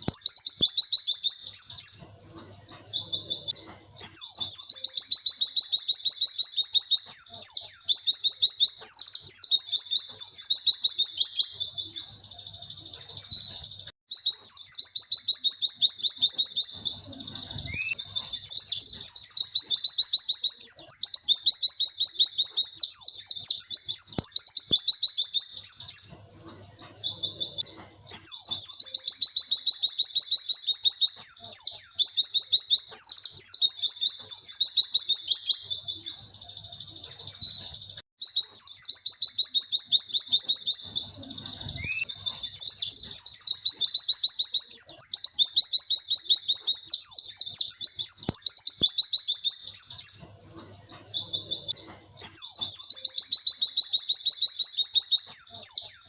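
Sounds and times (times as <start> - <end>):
bird singing rapid high notes: 0.0 - 56.0.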